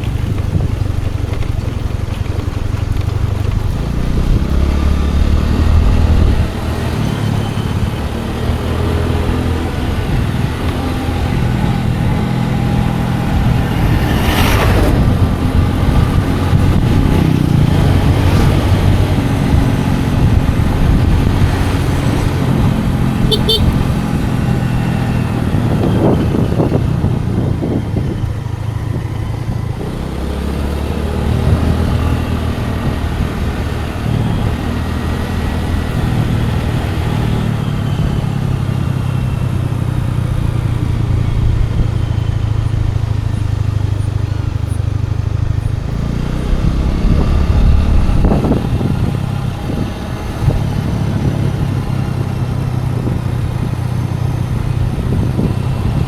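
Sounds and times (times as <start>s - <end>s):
motor scooter engine running: 0.0s - 56.0s.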